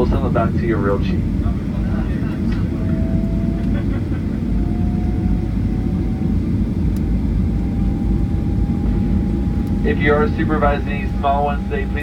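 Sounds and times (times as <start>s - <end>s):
low rumble of jet engines: 0.0s - 12.0s
faint whine rising in pitch: 2.0s - 12.0s.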